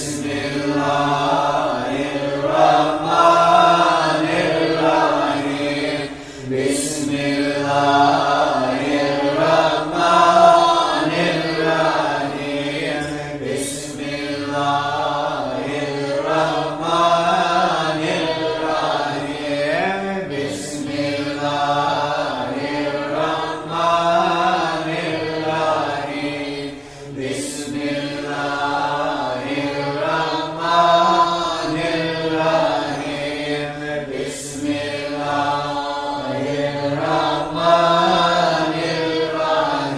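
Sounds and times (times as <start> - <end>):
slow vocal chanting: 0.0 - 39.9.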